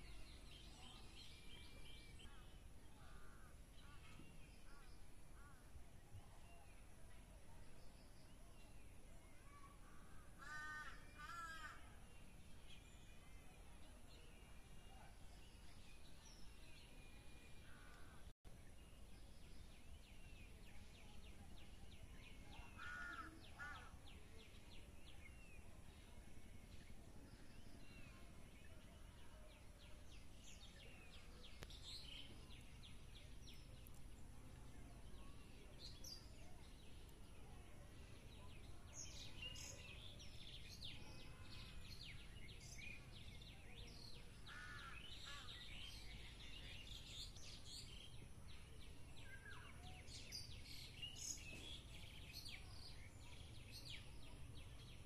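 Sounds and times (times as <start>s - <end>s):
birds chirping: 7.7s - 55.0s.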